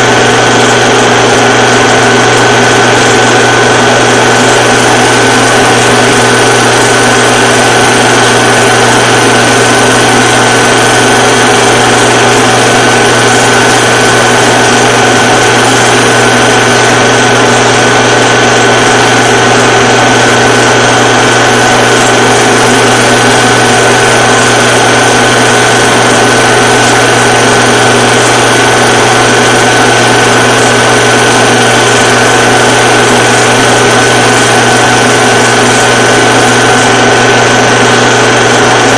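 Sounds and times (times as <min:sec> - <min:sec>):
film projector motor whir: 0:00.0 - 0:38.9.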